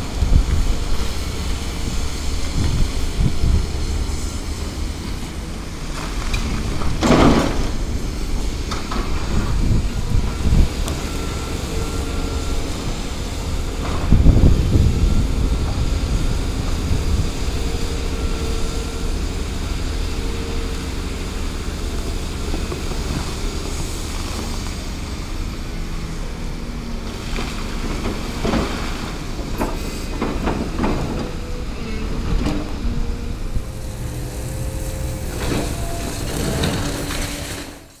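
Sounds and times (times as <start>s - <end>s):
excavator diesel engine and hydraulics: 0.0s - 38.0s.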